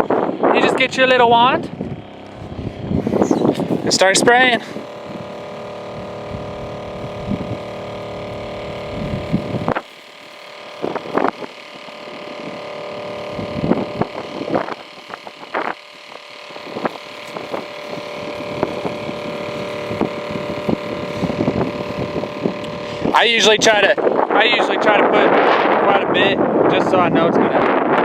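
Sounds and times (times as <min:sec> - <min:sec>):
weed sprayer motor hum: 0:00.0 - 0:28.0.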